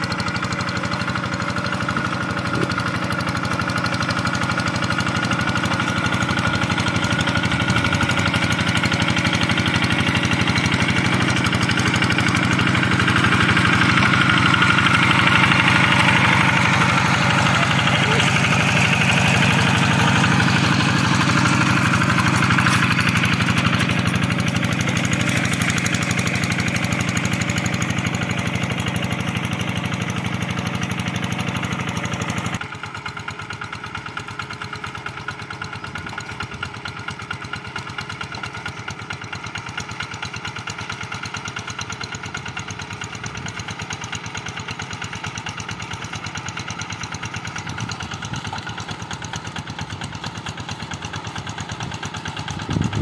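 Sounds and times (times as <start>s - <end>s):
walking tractor diesel engine: 0.0s - 53.0s.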